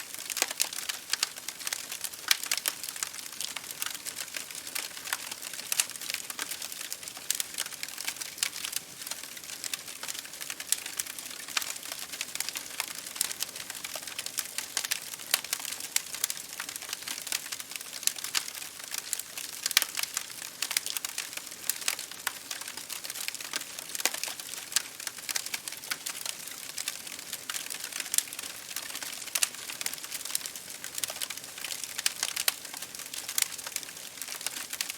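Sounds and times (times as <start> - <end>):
campfire crackling and popping: 0.0 - 34.9.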